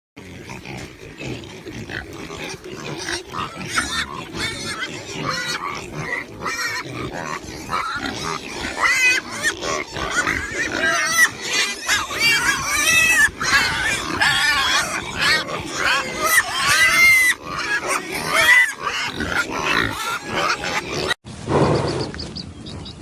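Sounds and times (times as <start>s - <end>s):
pigs squealing: 0.2s - 21.2s.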